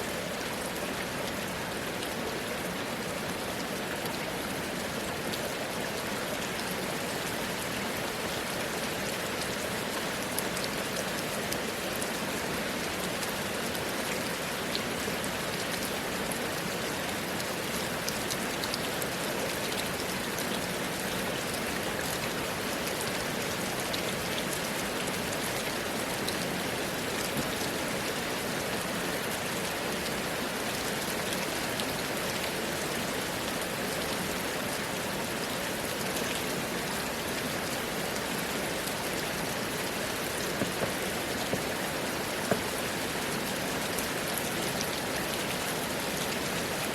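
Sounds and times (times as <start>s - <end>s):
steady rainfall: 0.0s - 46.9s
raindrops pattering on surfaces: 0.4s - 32.9s, 37.7s - 46.9s.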